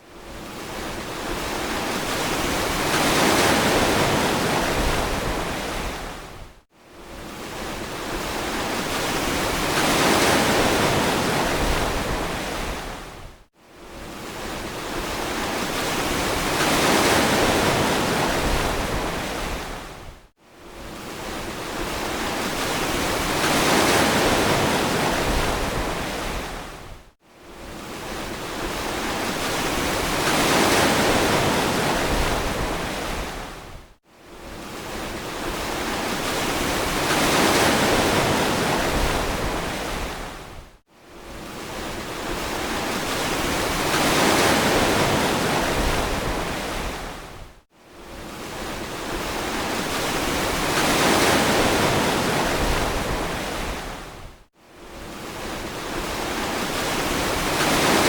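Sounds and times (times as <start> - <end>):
ocean surf washing on beach: 0.2 - 6.4, 7.0 - 13.3, 13.9 - 20.1, 20.7 - 27.0, 27.6 - 33.8, 34.4 - 58.0.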